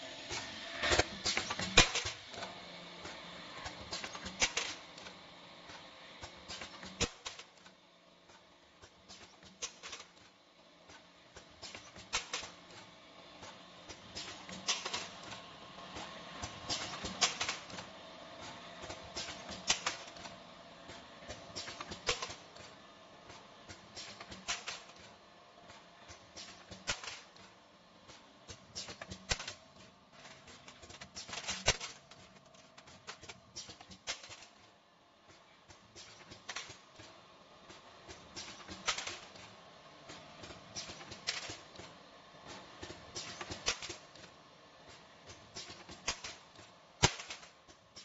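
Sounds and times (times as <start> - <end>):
faint machine hum: 0.0 - 48.0
metallic clicks and clacks: 0.3 - 44.3, 44.9 - 48.0.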